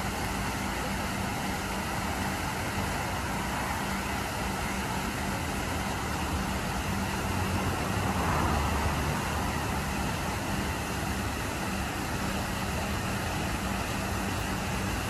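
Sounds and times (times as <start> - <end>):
fountain water splashing: 0.0 - 15.0
road traffic rumble: 0.0 - 15.0.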